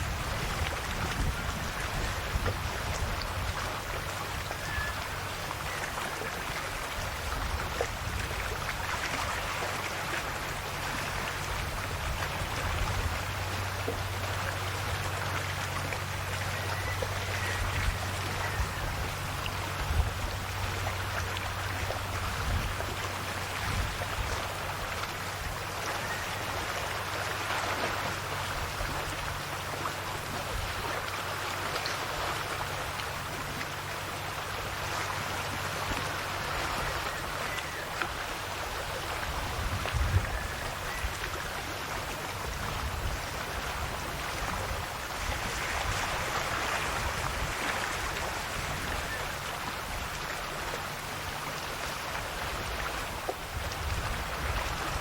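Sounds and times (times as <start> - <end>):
sea waves washing in: 0.0 - 55.0.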